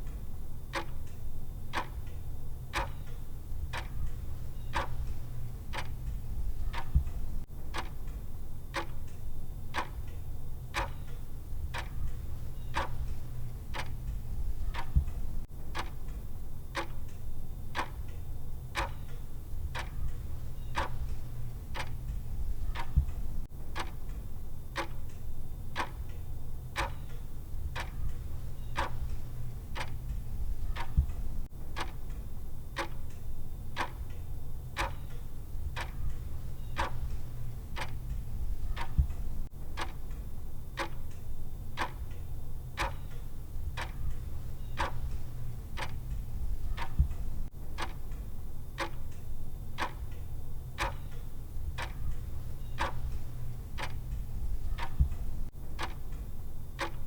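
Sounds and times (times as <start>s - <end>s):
clock ticking: 0.0s - 57.0s
low steady rumble: 0.0s - 57.0s.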